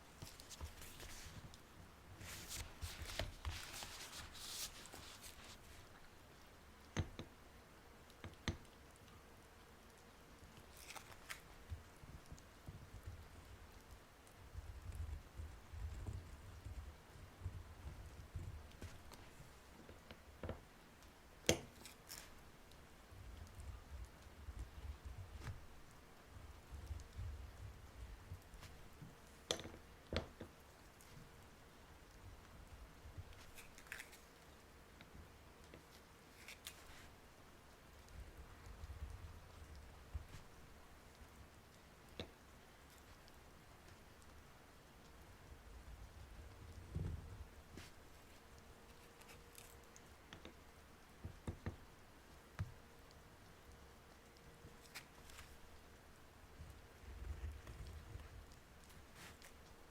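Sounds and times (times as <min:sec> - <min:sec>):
light crackly ticks: 0:08.0 - 0:59.9.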